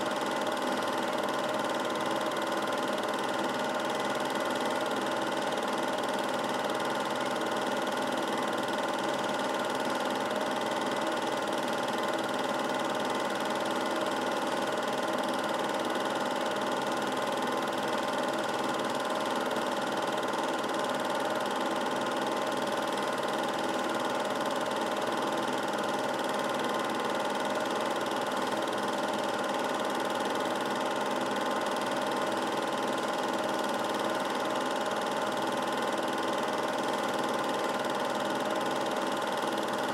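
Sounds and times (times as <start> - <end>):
film projector humming and whirring: 0.0 - 39.9.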